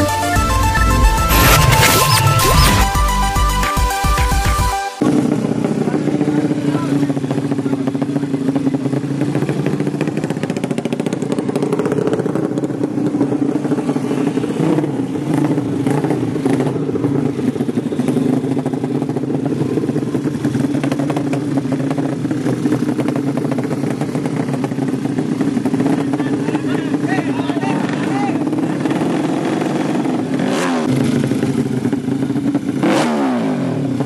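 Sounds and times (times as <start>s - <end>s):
motorcycle engines running loudly: 0.0s - 3.0s, 5.0s - 34.0s.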